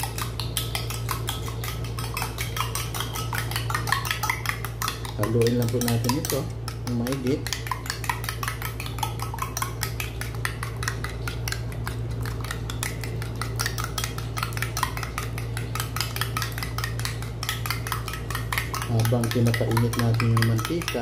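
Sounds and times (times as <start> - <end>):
utensil clicking against bowl: 0.0 - 21.0.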